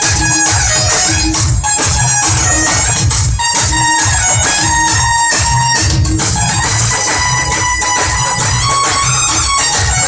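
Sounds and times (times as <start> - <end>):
loud amplified dance music: 0.0 - 10.0
sustained high melody line: 0.0 - 10.0.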